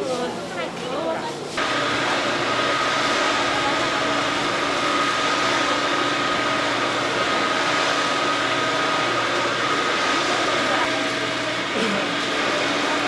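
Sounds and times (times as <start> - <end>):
machinery hum and rush: 1.5 - 13.0
high steady machine whine: 1.6 - 13.0.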